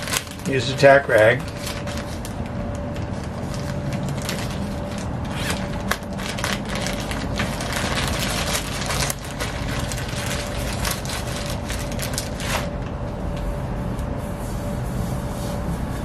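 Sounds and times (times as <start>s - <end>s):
plastic bag crinkling: 0.0s - 13.0s
steady low hum: 0.0s - 16.0s.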